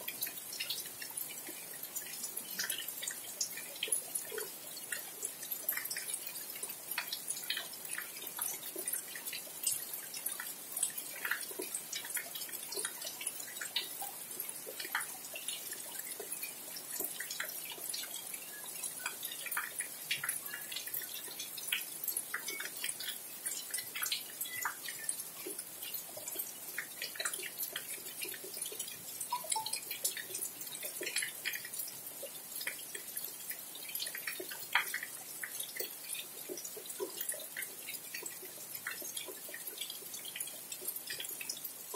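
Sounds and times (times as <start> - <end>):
close drips ticking: 0.0 - 41.9
steady rain: 0.0 - 41.9.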